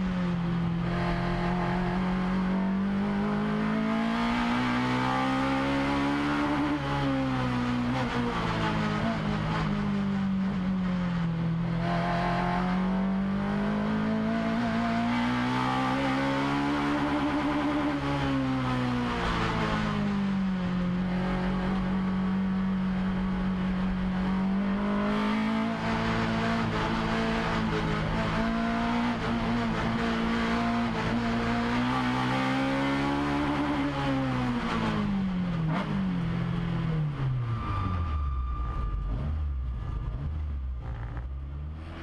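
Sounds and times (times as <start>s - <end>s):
race car engine from inside: 0.0s - 42.0s.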